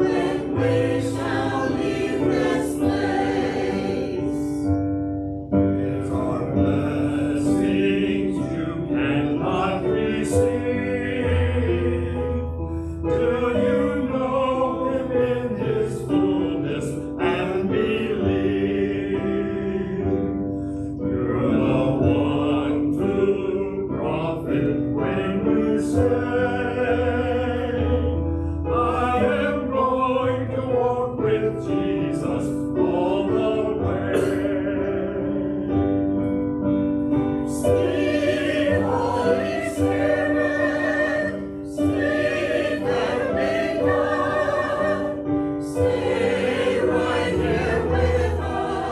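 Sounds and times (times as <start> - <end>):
choir singing with accompaniment: 0.0 - 5.0, 5.7 - 36.4, 37.0 - 48.9.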